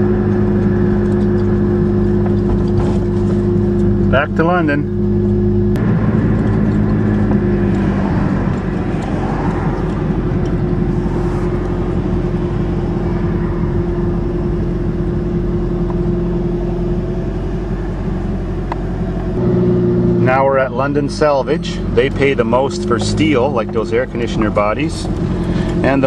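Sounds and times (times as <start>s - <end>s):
car engine drone: 0.0s - 26.0s
road noise: 0.0s - 26.0s.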